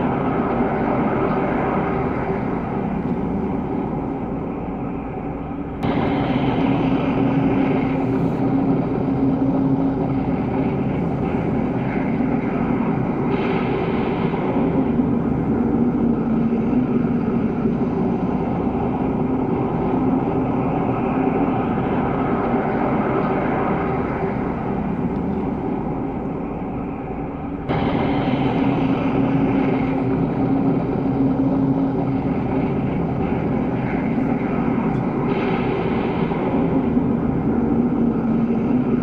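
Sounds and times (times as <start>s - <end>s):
synthetic drone: 0.0s - 39.0s.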